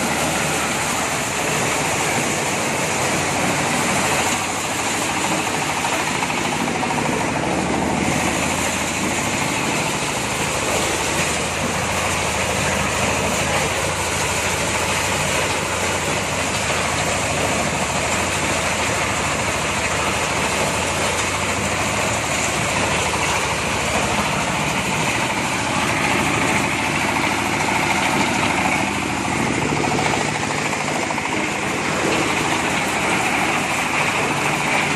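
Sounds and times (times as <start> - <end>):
corn sheller machine running: 0.0 - 34.9.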